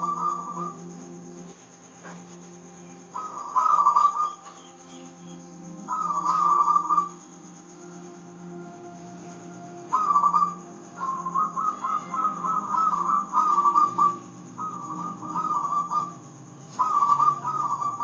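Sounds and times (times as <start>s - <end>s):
dove cooing: 0.0s - 18.0s
low instrumental drone: 0.0s - 18.0s.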